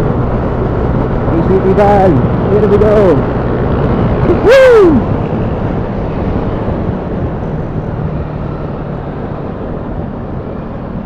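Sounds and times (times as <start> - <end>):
scooter engine hum: 0.0 - 11.0
wind noise on microphone: 0.0 - 11.0.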